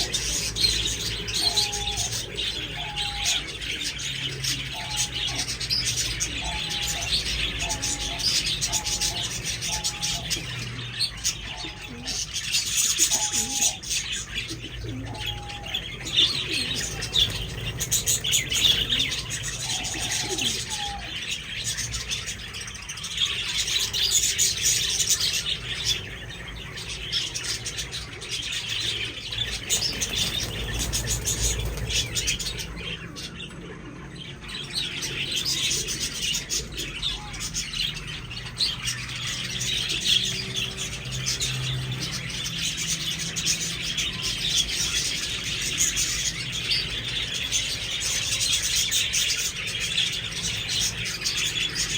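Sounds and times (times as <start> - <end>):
flock of budgerigars chirping: 0.0 - 51.9.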